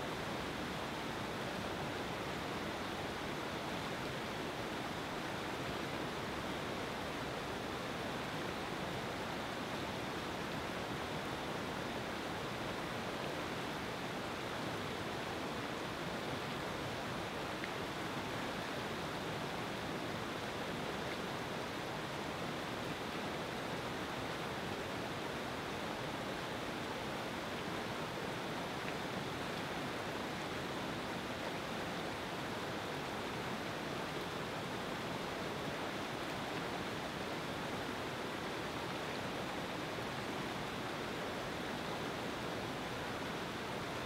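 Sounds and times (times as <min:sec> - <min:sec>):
whitewater rushing over rocks: 0:00.1 - 0:44.0.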